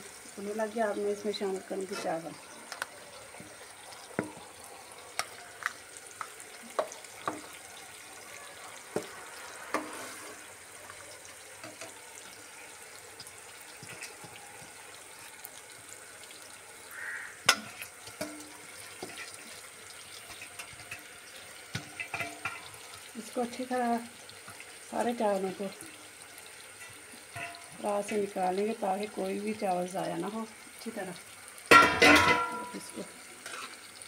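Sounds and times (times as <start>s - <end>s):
boiling pot hissing: 0.0s - 34.0s.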